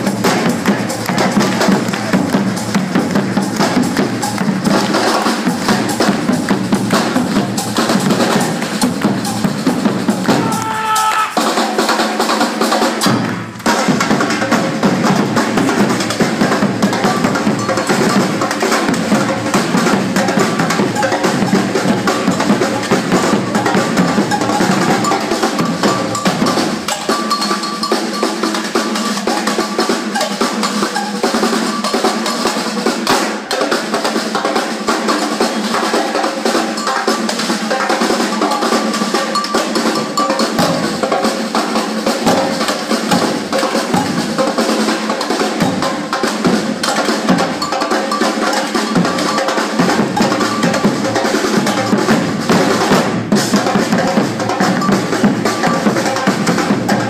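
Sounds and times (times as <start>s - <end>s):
drum ensemble beating drums: 0.0s - 57.0s.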